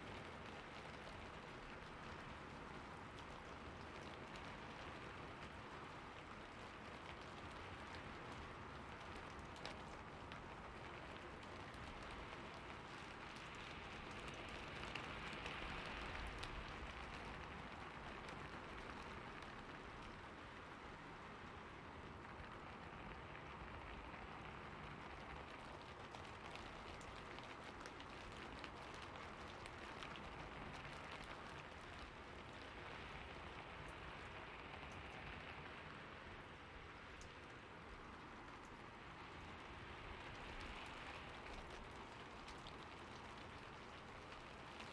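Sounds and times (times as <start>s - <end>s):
steady rainfall: 0.0s - 44.9s.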